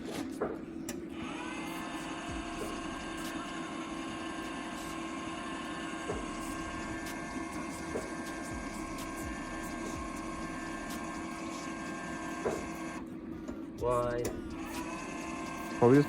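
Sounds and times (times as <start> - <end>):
wire-feed motor whining: 0.0 - 16.0.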